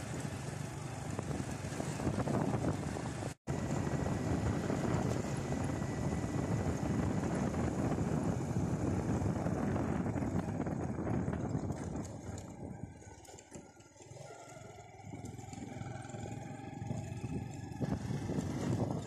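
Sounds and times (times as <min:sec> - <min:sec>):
wind on microphone: 0:00.0 - 0:13.6, 0:16.7 - 0:19.0
motorcycle engine rumble: 0:00.0 - 0:19.0.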